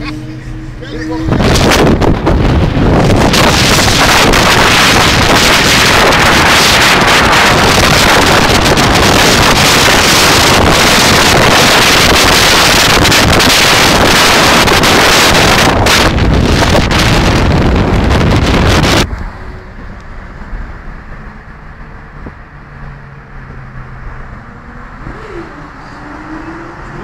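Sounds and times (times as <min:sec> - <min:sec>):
road and traffic noise: 0:00.0 - 0:27.0
wind rushing over microphone: 0:00.0 - 0:27.0.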